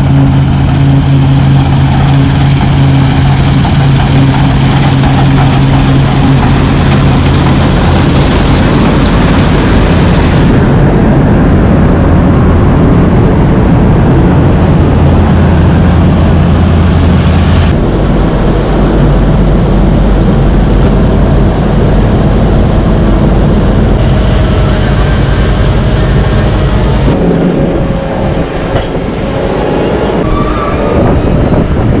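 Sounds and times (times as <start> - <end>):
heavy farm machinery running: 0.0 - 30.2.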